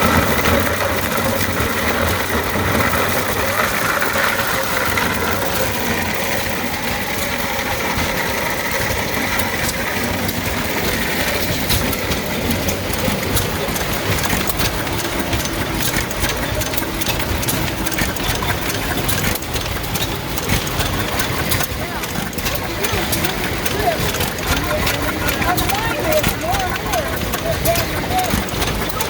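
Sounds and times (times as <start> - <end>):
corn grinder clicking: 0.0 - 29.0
hit-and-miss engine running: 0.0 - 29.0.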